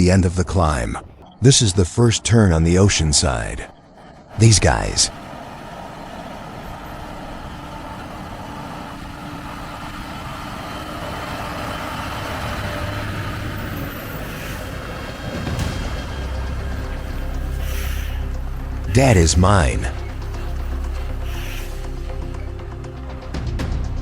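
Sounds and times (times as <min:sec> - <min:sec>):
truck diesel engine running: 0:04.3 - 0:24.0.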